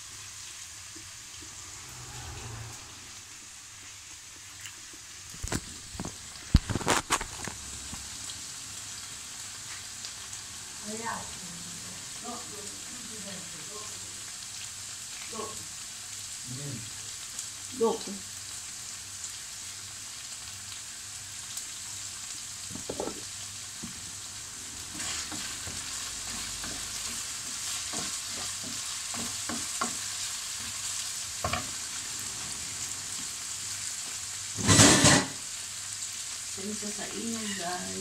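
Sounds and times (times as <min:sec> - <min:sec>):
liver sizzling in a pan: 0:00.0 - 0:38.0.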